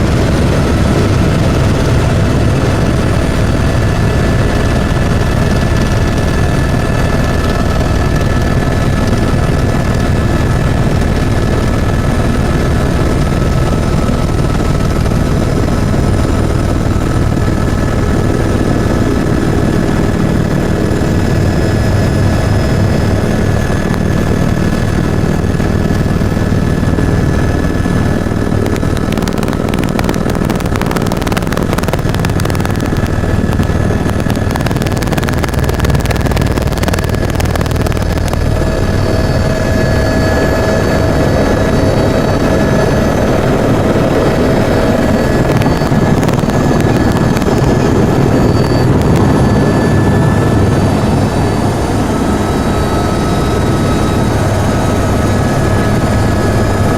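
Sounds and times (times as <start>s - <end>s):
helicopter rotor throb: 0.0s - 56.9s
helicopter turbine whine: 0.0s - 56.9s
lower whine: 0.0s - 56.9s.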